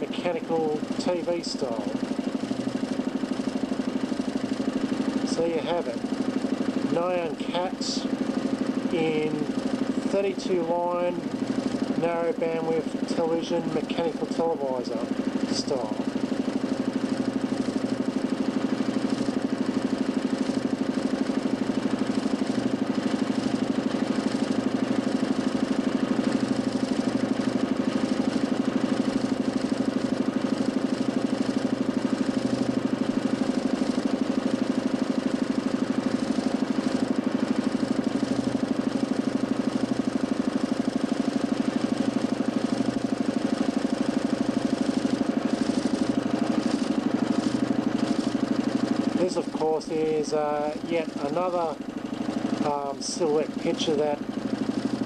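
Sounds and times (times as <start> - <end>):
pulsing motor spinning disc: 0.0 - 55.0.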